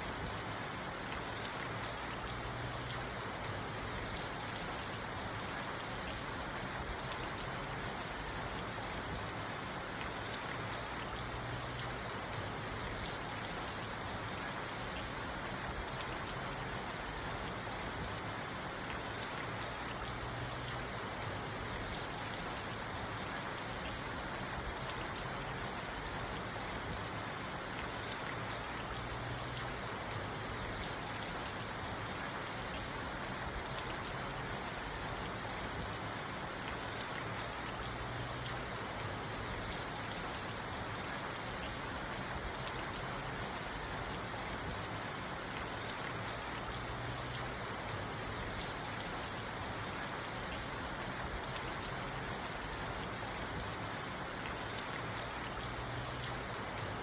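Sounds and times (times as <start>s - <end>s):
rain on a car: 0.0s - 57.0s.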